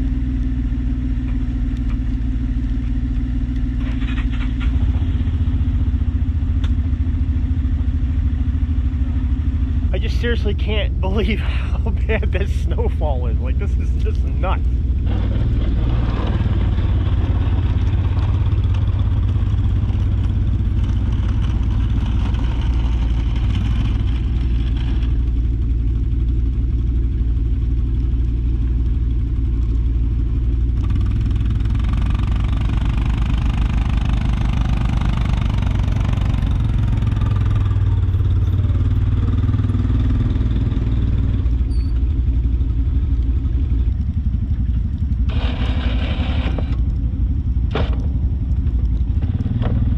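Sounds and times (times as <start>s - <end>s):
engine droning: 0.0s - 49.9s.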